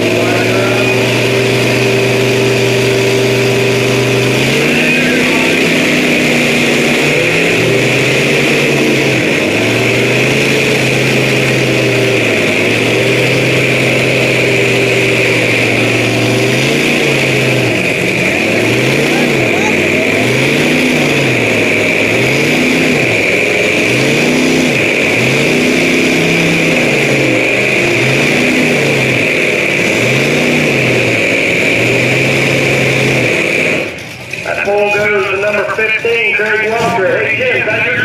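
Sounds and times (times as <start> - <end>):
truck engine straining under load: 0.0 - 38.0.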